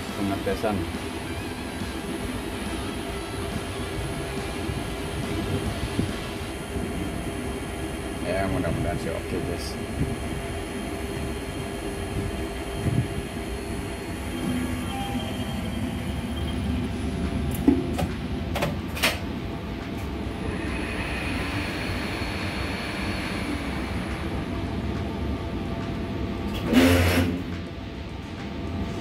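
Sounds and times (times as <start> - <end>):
elevator machine rumble: 0.0 - 29.0.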